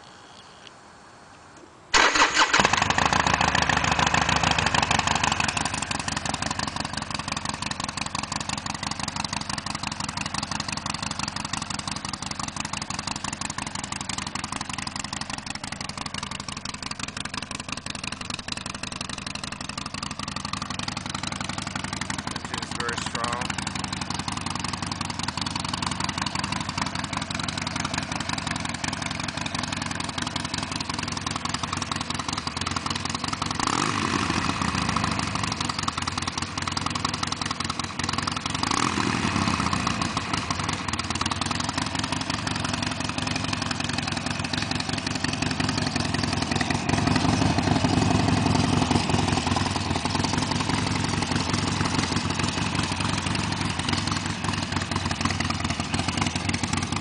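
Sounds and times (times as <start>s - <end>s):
motorcycle engine idling and revving: 1.9s - 57.0s.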